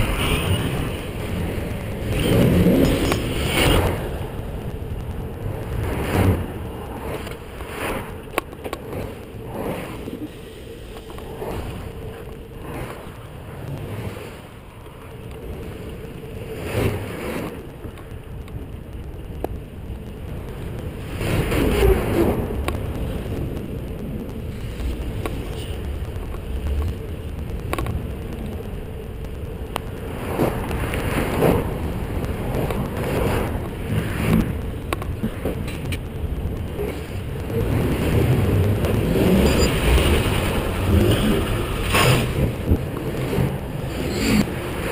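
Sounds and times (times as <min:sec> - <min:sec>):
bicycle tyre noise: 0:00.0 - 0:44.9
wind rushing over microphone: 0:00.0 - 0:44.9.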